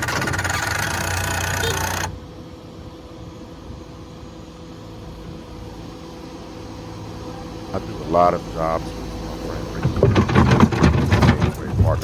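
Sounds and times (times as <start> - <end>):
loud machinery engine hum: 0.0 - 12.0
quieter mechanical hum: 0.0 - 12.0.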